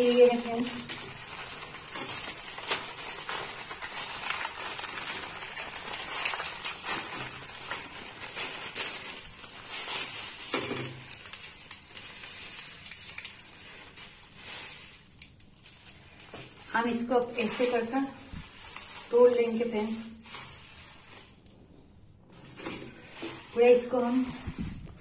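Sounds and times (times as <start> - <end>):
plastic packet crinkling: 0.0 - 21.6, 22.3 - 25.0.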